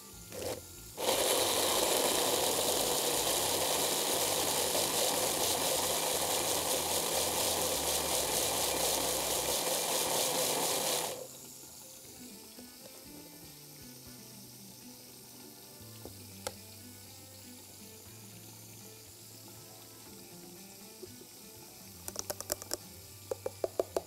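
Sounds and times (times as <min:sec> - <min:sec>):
electric hand blender running: 0:00.0 - 0:24.0.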